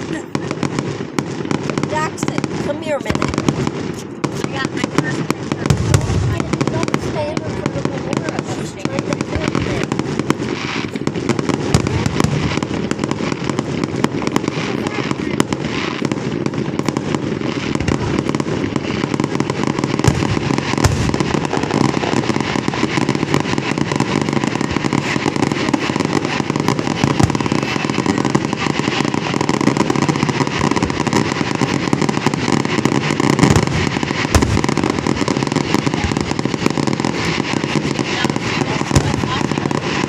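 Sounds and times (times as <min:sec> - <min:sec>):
firecrackers crackling: 0:00.0 - 0:40.0
heavy firework bangs: 0:00.0 - 0:40.0.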